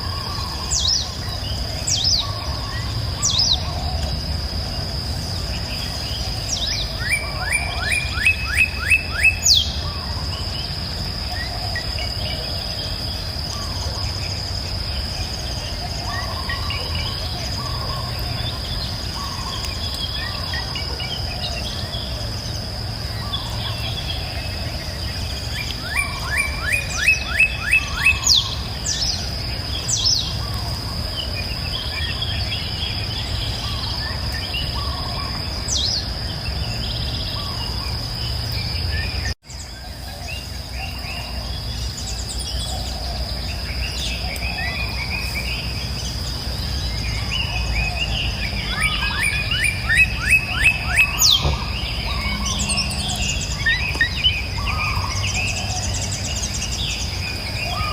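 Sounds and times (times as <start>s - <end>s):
birds singing: 0.0s - 57.9s
high insect drone: 0.0s - 57.9s.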